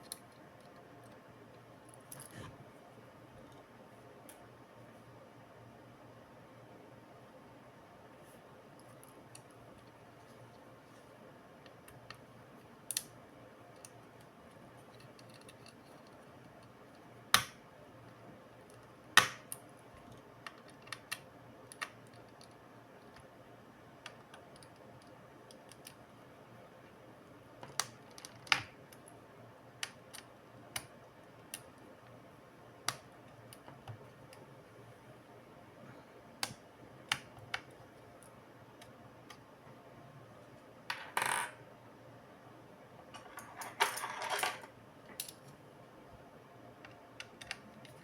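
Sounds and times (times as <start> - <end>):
faint steady background noise: 0.0 - 48.0.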